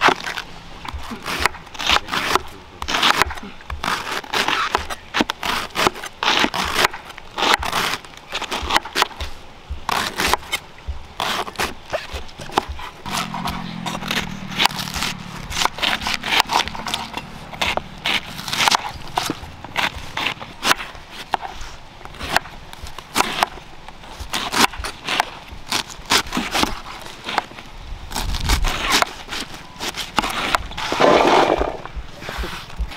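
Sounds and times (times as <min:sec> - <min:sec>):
knife crunching through cabbage: 0:00.0 - 0:10.6, 0:11.2 - 0:27.5, 0:28.1 - 0:32.9.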